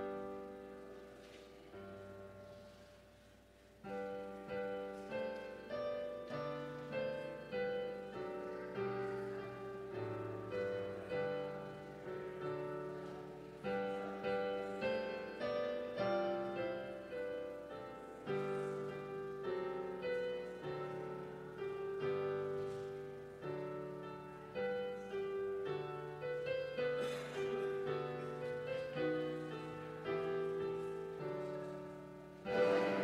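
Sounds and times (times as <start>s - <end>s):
slow piano chords: 0.0s - 33.0s.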